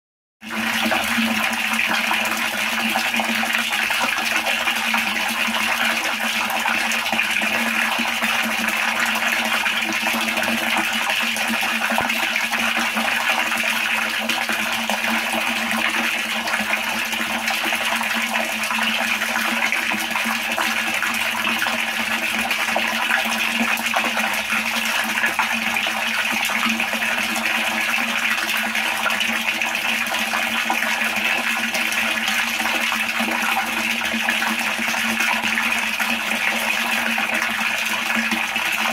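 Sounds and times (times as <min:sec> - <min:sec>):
water pouring into water: 0:00.4 - 0:38.9.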